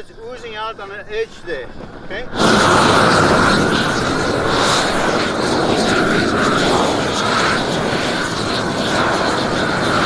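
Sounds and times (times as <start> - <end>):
roofing torch roaring: 0.0 - 10.0.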